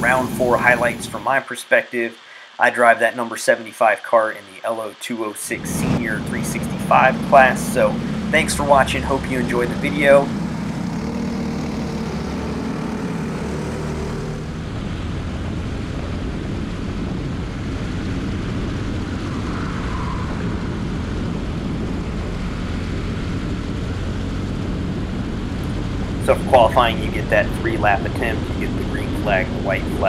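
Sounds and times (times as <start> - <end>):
kart engine running: 0.0 - 1.3, 5.5 - 30.0.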